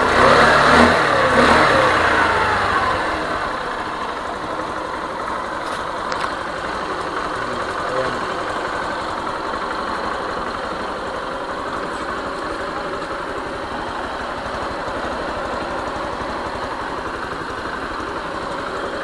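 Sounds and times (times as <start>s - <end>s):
scooter engine idling: 0.0s - 19.0s.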